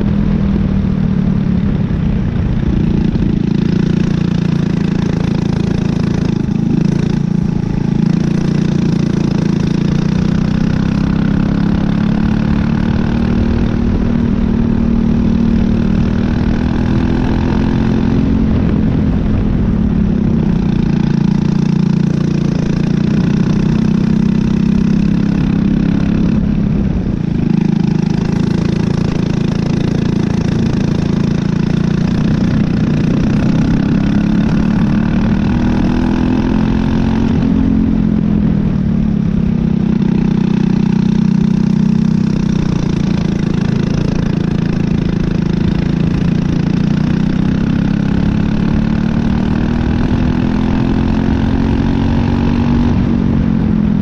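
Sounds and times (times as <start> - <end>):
kart engine revving: 2.6 - 38.1, 39.2 - 53.7.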